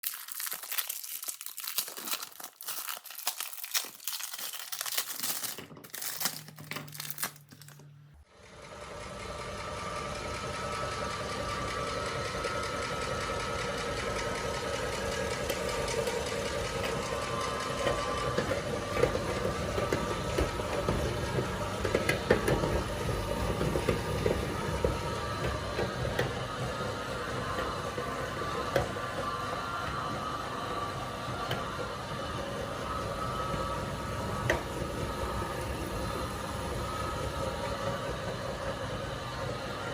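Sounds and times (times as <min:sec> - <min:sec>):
electric meat grinder running: 0:00.0 - 0:39.9.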